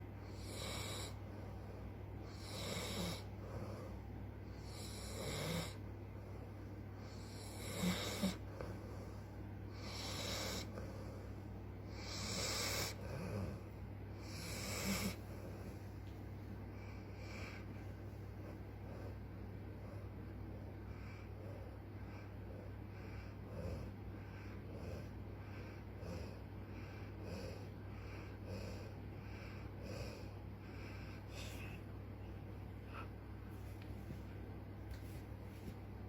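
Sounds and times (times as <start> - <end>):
dog snoring: 0.2 - 15.8, 16.8 - 31.8.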